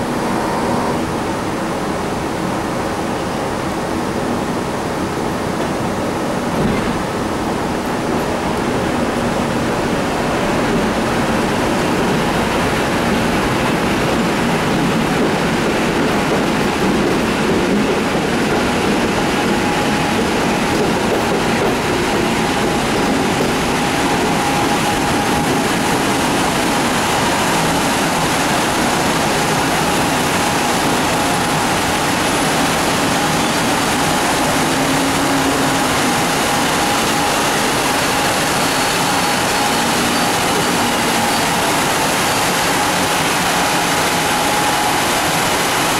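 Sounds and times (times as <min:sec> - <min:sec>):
electric train rumbling: 0:00.0 - 0:45.9.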